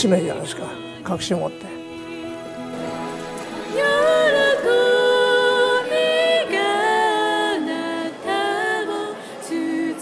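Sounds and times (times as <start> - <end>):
person singing slow melody: 0.6 - 10.0.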